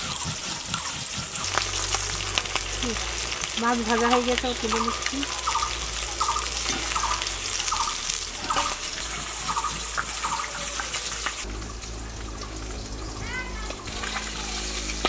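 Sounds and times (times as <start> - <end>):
fish sizzling in hot oil: 0.0 - 15.0
outdoor background noise: 0.0 - 15.0.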